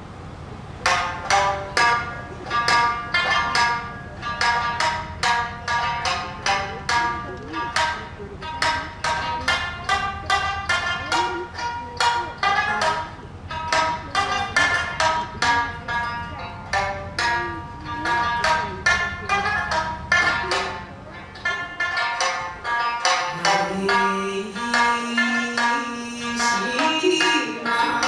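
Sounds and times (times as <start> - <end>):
low steady hum: 0.0 - 28.0
plucked string instrument: 0.0 - 28.0.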